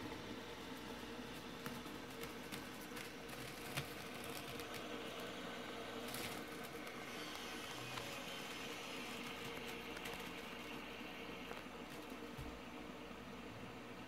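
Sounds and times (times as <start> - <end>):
fidget spinner whirring: 0.0 - 12.4.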